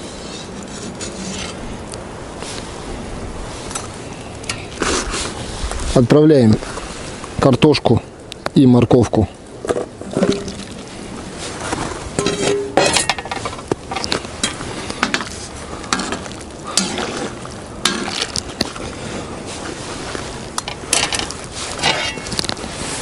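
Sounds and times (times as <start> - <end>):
steady sizzling hiss: 0.0 - 23.0.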